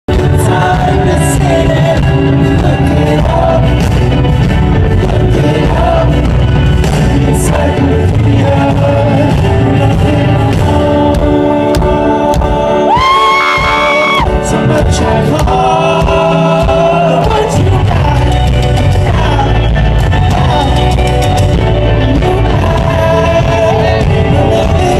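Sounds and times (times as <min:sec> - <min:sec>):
live rock band playing: 0:00.1 - 0:24.9
person singing: 0:00.1 - 0:24.9.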